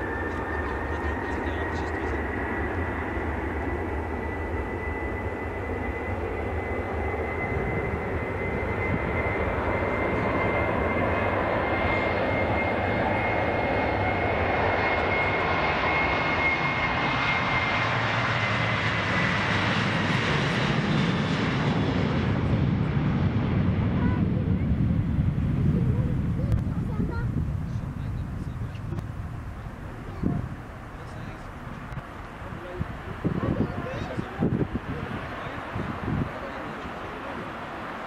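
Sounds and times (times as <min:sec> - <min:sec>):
jet engines at takeoff: 0:00.0 - 0:38.0.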